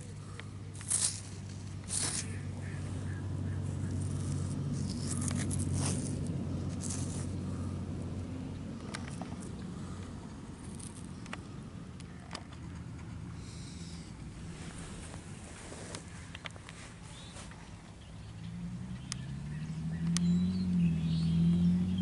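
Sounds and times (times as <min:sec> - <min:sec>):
gravel and sand crunching: 0:00.0 - 0:18.2
low hum: 0:00.0 - 0:22.0.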